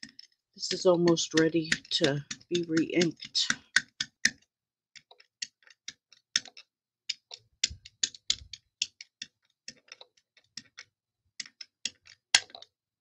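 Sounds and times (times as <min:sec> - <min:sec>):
ink pad tapping clicks: 0:00.0 - 0:04.4, 0:05.0 - 0:12.7.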